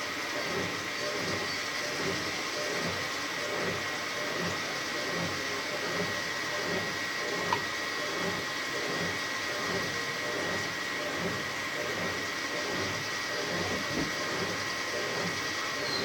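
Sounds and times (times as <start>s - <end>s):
washing machine churning: 0.0s - 16.0s.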